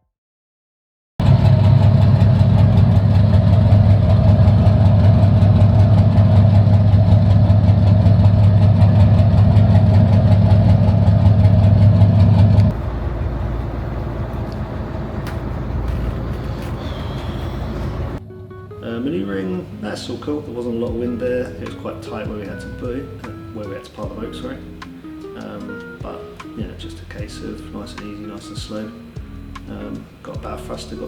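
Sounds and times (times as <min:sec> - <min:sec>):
boat engines humming: 0:01.2 - 0:31.0.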